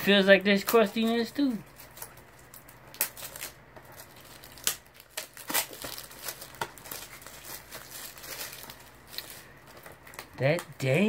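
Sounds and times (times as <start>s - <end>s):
plastic crinkling: 0.3s - 11.0s.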